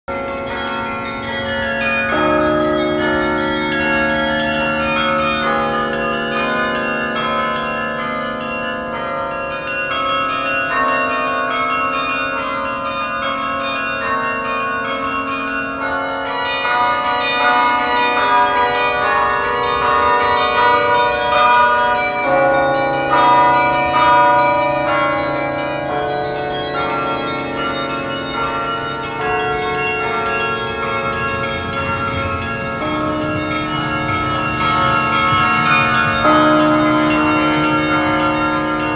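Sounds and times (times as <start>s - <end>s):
carillon bells playing a tune: 0.1s - 38.9s.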